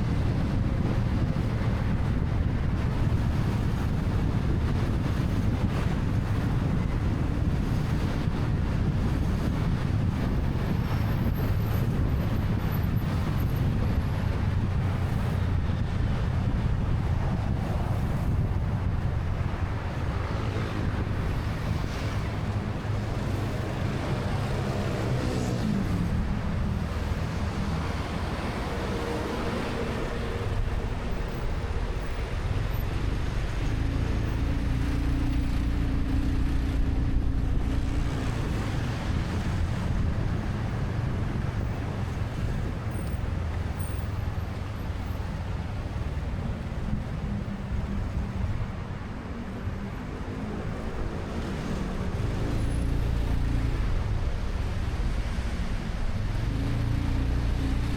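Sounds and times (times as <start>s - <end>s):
city traffic noise: 0.0s - 57.9s.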